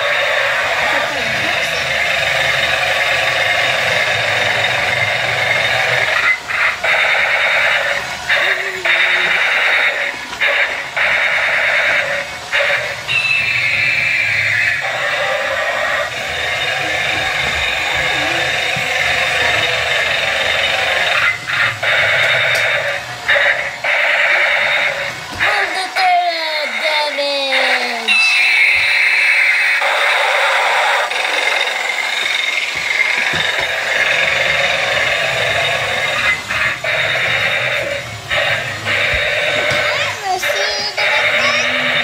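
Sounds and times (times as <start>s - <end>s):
toy machine-gun sound effect: 0.0s - 42.0s.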